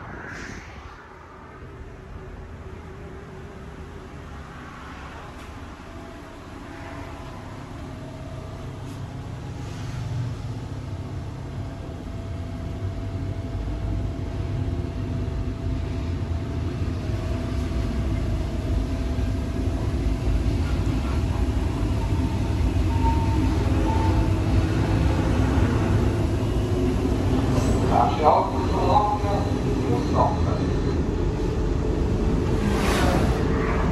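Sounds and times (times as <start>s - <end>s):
electric railcar running rumble: 1.2s - 33.9s.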